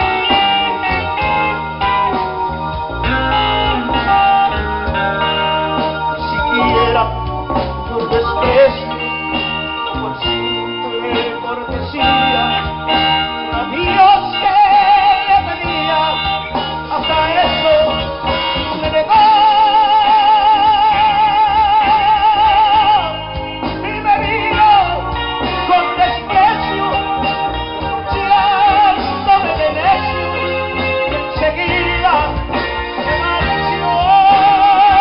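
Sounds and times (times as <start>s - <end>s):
band playing instrumental: 0.0s - 35.0s.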